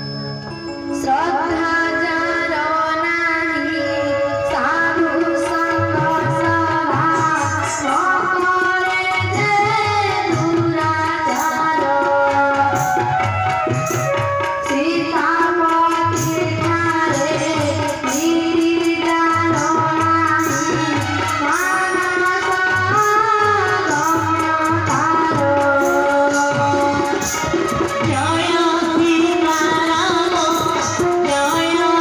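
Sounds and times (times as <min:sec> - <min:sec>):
girl singing: 0:01.0 - 0:12.8, 0:14.7 - 0:27.1, 0:28.0 - 0:32.0
hand drum rhythm: 0:06.0 - 0:32.0.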